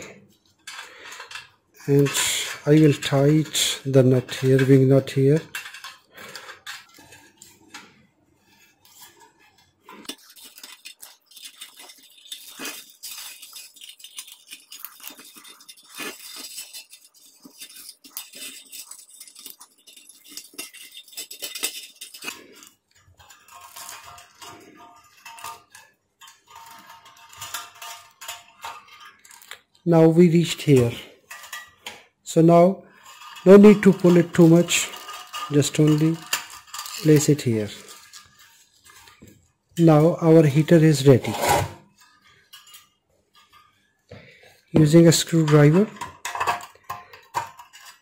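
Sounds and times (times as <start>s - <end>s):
metallic clinks and scrapes of wire: 0.0s - 48.0s.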